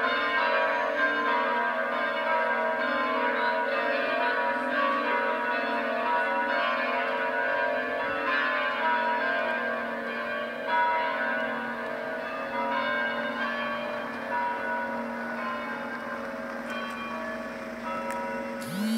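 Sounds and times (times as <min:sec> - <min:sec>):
church bells ringing: 0:00.0 - 0:18.7.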